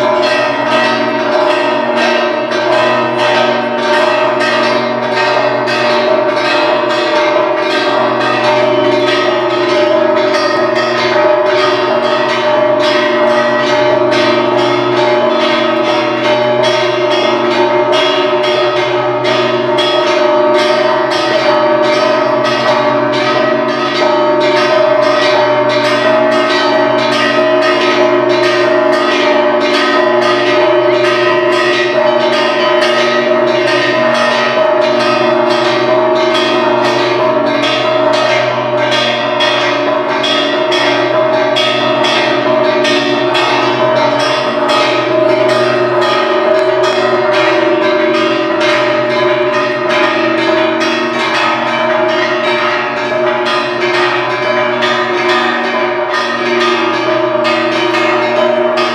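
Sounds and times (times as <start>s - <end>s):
church bells ringing: 0.0s - 58.9s.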